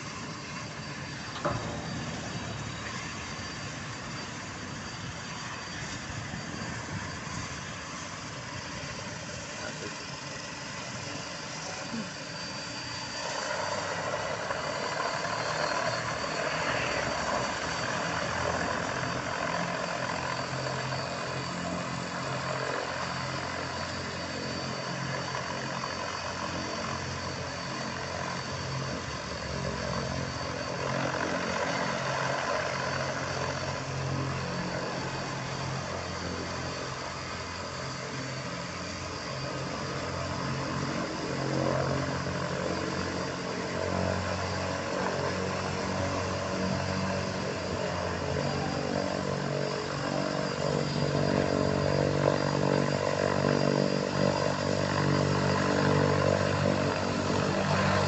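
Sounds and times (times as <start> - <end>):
high turbine whine: 0.0 - 58.0
propeller drone: 0.0 - 58.0.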